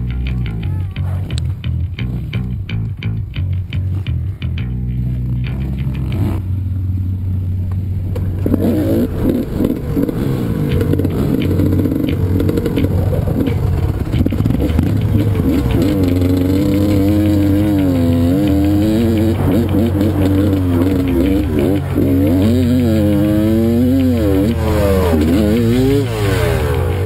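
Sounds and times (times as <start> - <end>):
dirt bike engine revving: 5.1 - 27.0.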